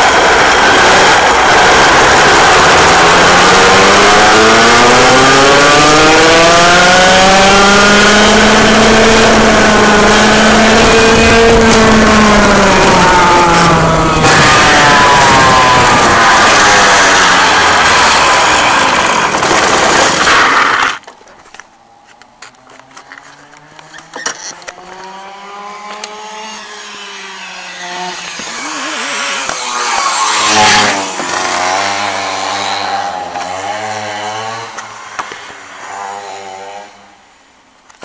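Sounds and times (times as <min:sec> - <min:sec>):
loud rushing noise: 0:00.0 - 0:21.0, 0:26.2 - 0:36.4
go-kart engine revving: 0:00.0 - 0:21.1, 0:22.8 - 0:37.2.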